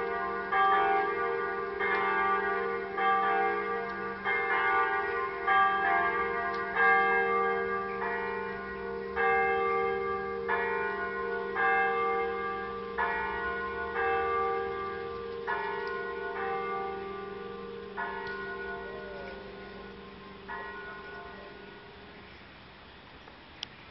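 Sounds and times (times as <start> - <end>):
electronic church bells pealing: 0.0 - 22.3.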